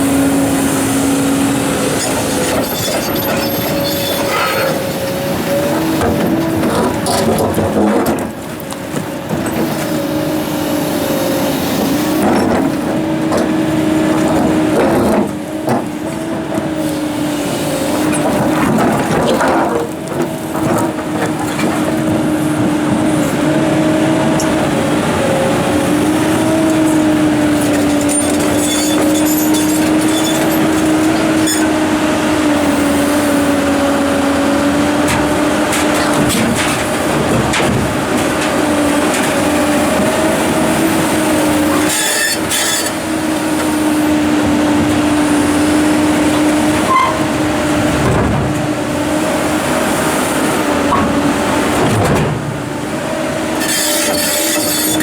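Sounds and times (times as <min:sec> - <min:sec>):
excavator engine and hydraulics hum: 0:00.0 - 0:55.0.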